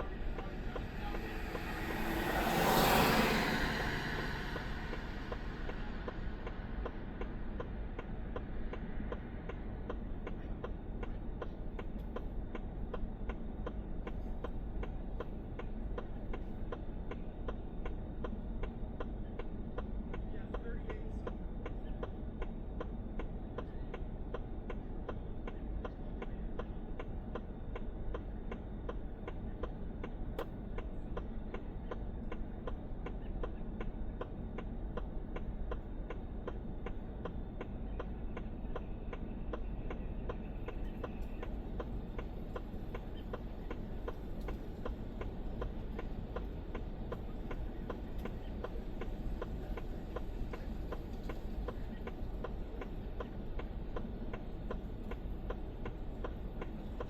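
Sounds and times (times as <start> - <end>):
low steady rumble: 0.0 - 57.0
turn signal ticking: 0.0 - 57.0.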